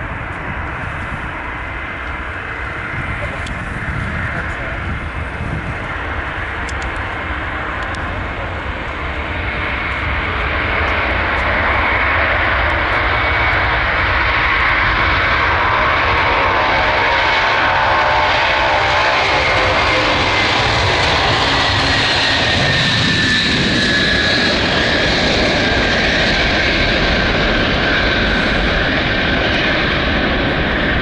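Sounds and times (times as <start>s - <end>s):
engine whine: 0.0s - 31.0s
jet engines at takeoff thrust: 0.0s - 31.0s.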